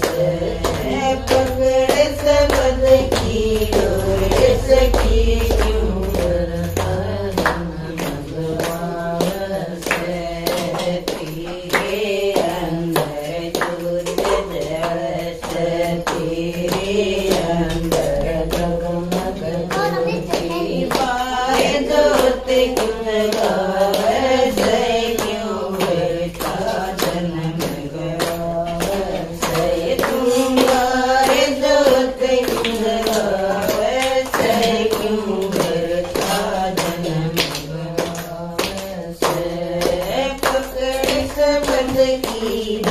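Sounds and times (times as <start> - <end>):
rhythmic hand claps: 0.0 - 42.9
women singing devotional song: 0.0 - 42.9.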